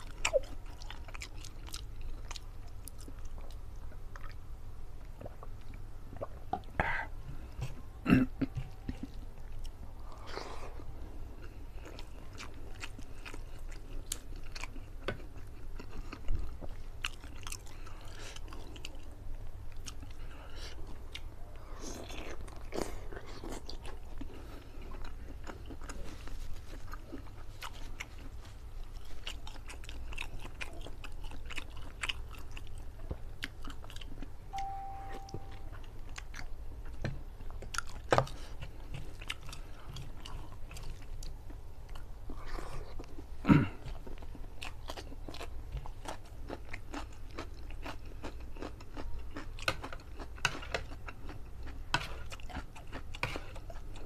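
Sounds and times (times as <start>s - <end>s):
chewing and biting: 0.0s - 6.8s, 8.4s - 34.8s, 35.7s - 54.0s.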